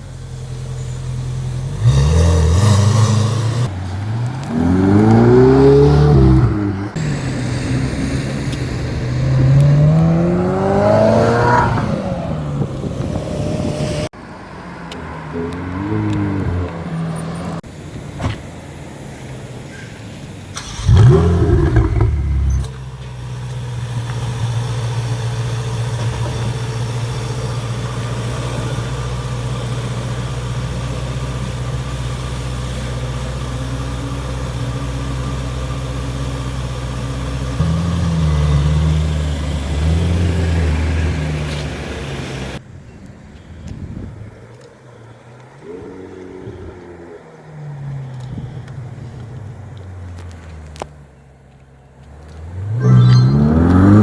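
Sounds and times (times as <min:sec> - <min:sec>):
car engine revving and idling: 0:00.0 - 0:18.1, 0:18.8 - 0:42.6, 0:44.4 - 0:54.0.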